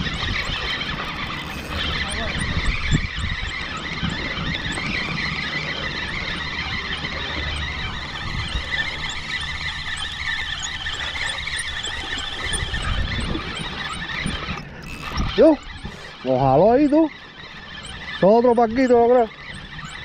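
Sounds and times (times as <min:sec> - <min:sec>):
fishing reel drag squealing: 0:00.0 - 0:20.0.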